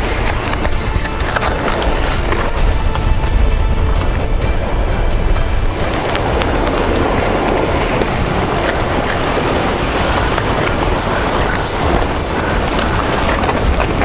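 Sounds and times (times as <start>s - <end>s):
heavy low rumble: 0.0s - 14.0s
surf breaking against rocks: 0.0s - 14.0s
wind buffeting microphone: 0.0s - 14.0s.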